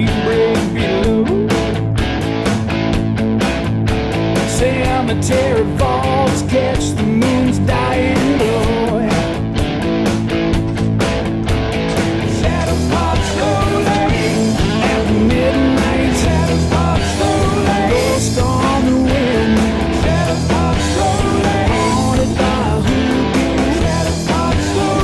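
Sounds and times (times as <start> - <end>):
rock music with singing: 0.0 - 25.0.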